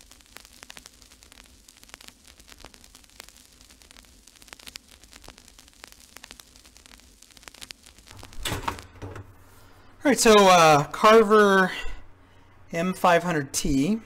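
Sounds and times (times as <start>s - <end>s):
crackling static clicks: 0.0s - 14.0s
steady hiss: 0.0s - 14.0s.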